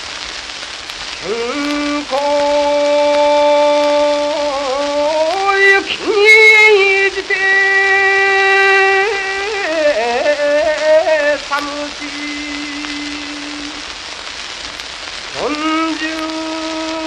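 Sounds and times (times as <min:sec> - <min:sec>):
record surface hiss: 0:00.0 - 0:17.0
man chanting: 0:01.2 - 0:13.9, 0:15.3 - 0:17.0.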